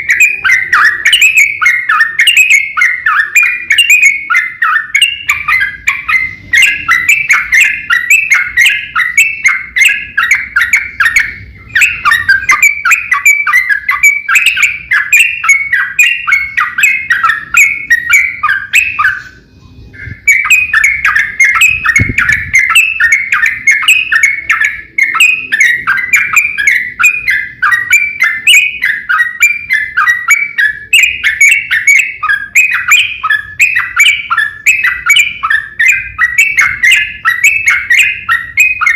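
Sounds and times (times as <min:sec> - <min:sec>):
bulbul singing chattering notes: 0:00.0 - 0:38.9.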